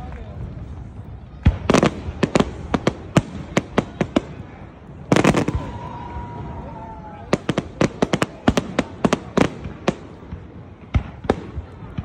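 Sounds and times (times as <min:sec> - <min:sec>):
firework bangs and crackling: 0:00.0 - 0:12.0
firework deep boom: 0:00.3 - 0:12.0.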